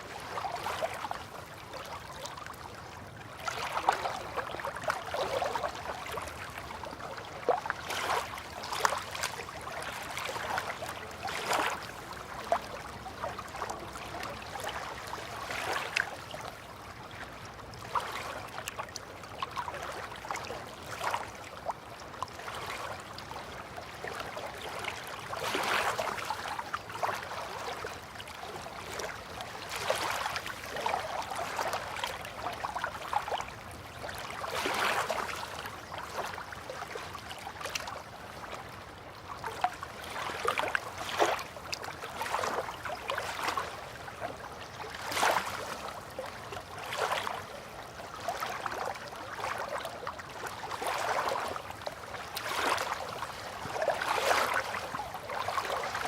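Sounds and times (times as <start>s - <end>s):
river water lapping at bank: 0.0s - 56.0s.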